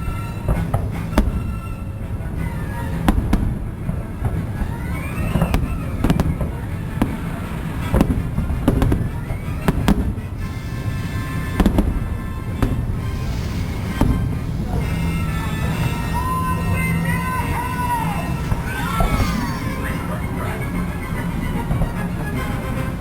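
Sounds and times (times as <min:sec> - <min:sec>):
fireworks bursting: 0:00.0 - 0:23.0
music playing: 0:00.0 - 0:23.0.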